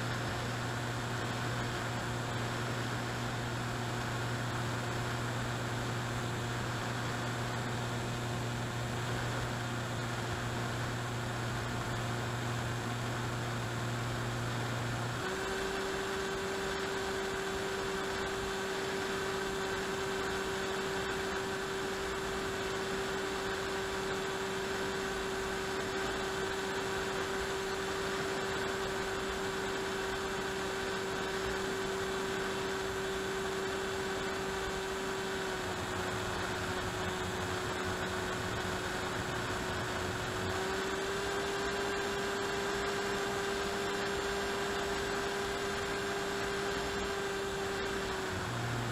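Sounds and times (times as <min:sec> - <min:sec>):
model plane motor droning: 0:00.0 - 0:48.9.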